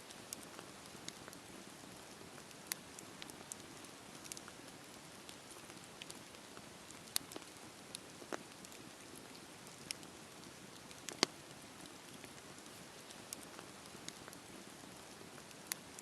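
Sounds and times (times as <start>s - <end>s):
wood crackling and popping: 0.0s - 16.0s
campfire hissing: 0.1s - 16.0s.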